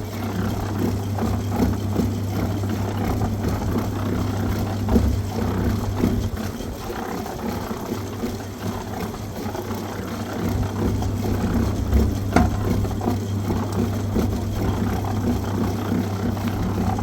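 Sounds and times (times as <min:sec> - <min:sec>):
engine running with low hum: 0:00.0 - 0:17.0.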